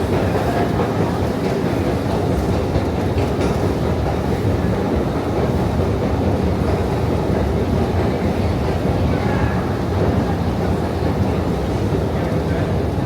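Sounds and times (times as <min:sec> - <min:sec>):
subway train running on track: 0:00.0 - 0:13.0.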